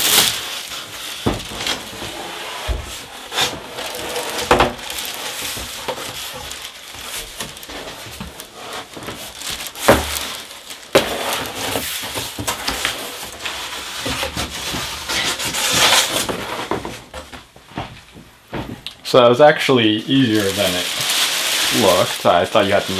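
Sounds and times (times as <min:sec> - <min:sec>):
cardboard scraping: 0:00.0 - 0:17.9, 0:19.7 - 0:22.9
plastic wrap rustling: 0:00.0 - 0:22.9.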